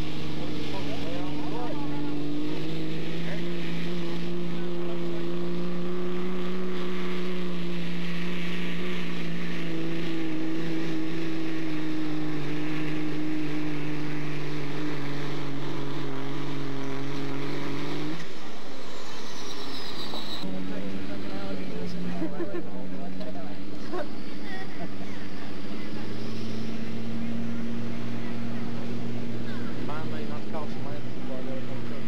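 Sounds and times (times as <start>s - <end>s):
diesel truck engine at full throttle: 0.0s - 32.0s.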